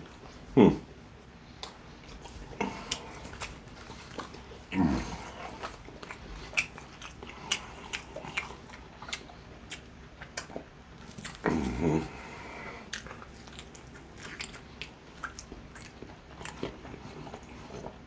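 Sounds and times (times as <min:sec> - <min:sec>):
crunchy eating and chewing: 0:00.0 - 0:18.0.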